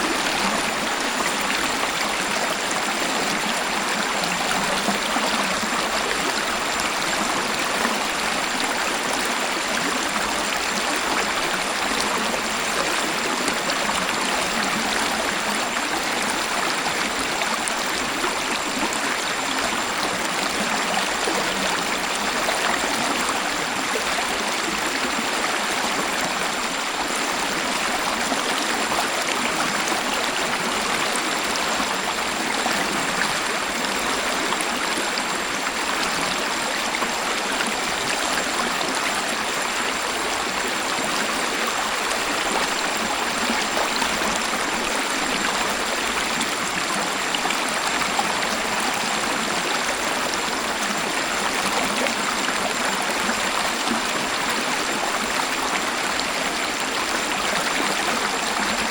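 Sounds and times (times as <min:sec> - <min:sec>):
waterfall rushing and splashing: 0:00.0 - 0:58.9.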